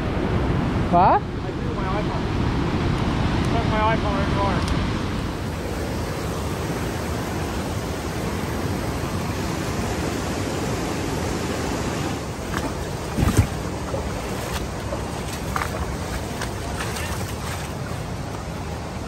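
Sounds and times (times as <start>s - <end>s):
river rapids rushing: 3.1s - 19.0s.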